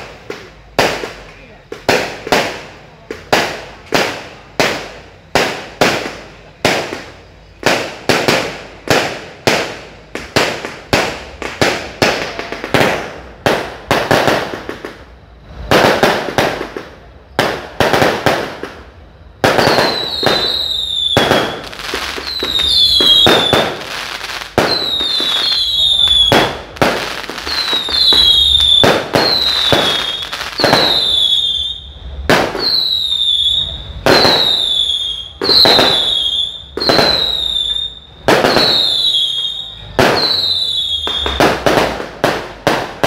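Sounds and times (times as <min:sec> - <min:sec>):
fireworks bangs: 0:00.0 - 0:43.0
whistling fireworks: 0:00.0 - 0:43.0.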